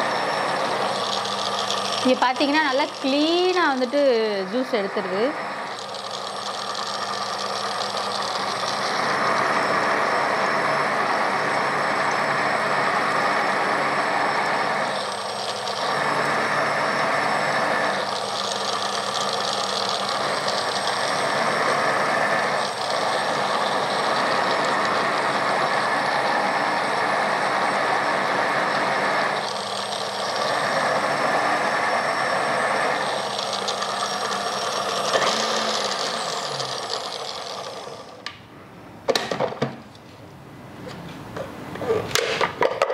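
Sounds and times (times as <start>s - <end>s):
food processor motor running: 0.0s - 38.4s.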